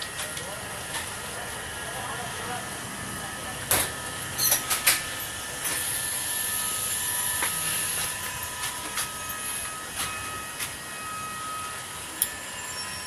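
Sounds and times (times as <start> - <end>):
faint whine: 0.3 - 13.0.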